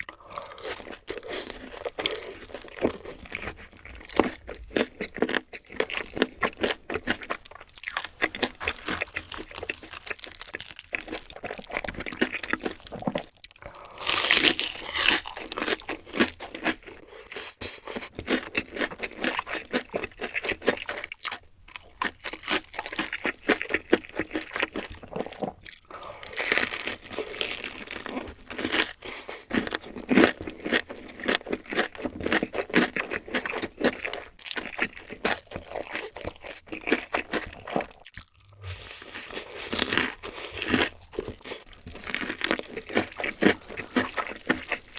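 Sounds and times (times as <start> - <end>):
wet chewing and crunching: 0.0 - 44.9.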